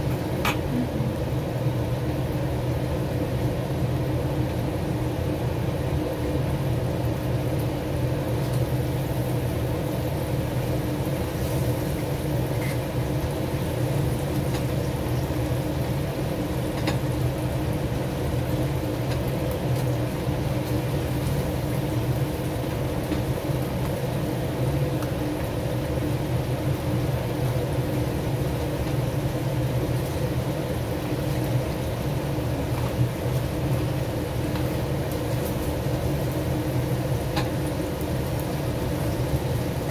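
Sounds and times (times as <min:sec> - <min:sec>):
kitchen fan hum: 0:00.0 - 0:39.9.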